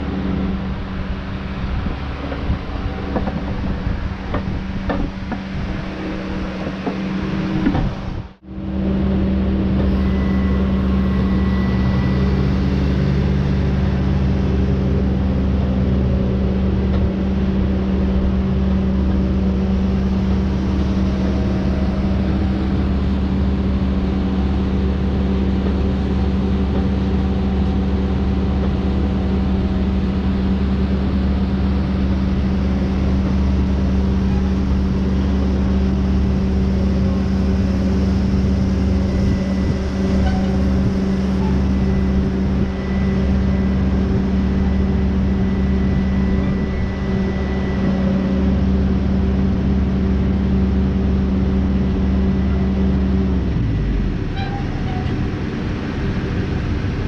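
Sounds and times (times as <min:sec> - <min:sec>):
log loader diesel engine drone: 0:00.0 - 0:57.0.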